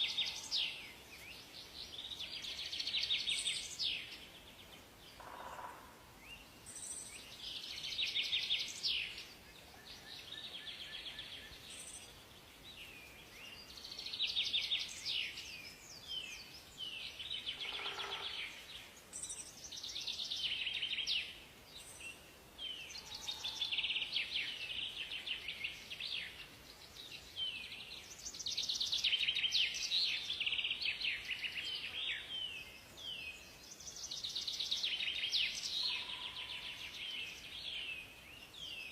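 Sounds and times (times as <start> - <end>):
faint steady hiss: 0.0 - 38.9
songbirds singing: 0.0 - 38.9.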